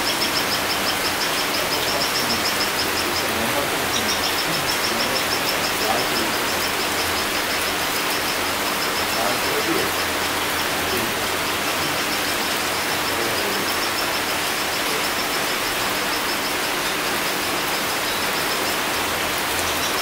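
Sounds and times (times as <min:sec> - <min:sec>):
rain falling on foliage: 0:00.0 - 0:20.0.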